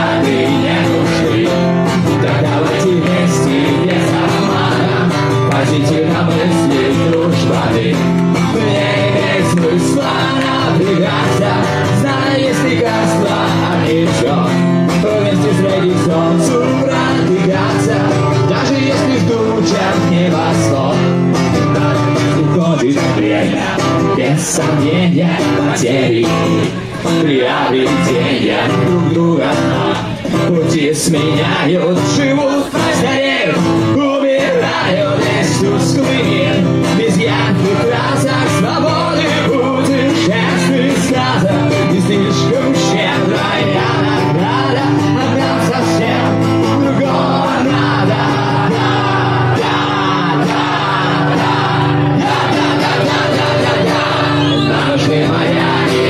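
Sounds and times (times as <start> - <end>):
acoustic guitar: 0.0 - 56.0
live rock band playing: 0.0 - 56.0
person singing: 0.0 - 56.0.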